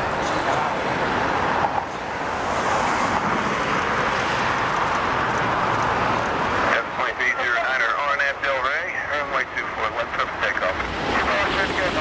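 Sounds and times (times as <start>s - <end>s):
jet aircraft rumble and hiss: 0.0s - 12.0s
road traffic: 0.0s - 12.0s.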